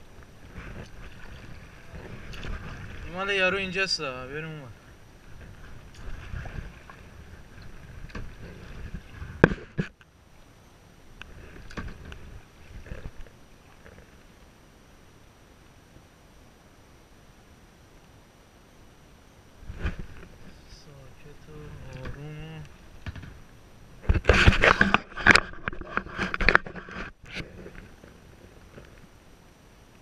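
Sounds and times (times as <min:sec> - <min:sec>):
faint steady hiss: 0:00.0 - 0:30.0
low rumble of water: 0:00.0 - 0:30.0
wind: 0:00.0 - 0:30.0.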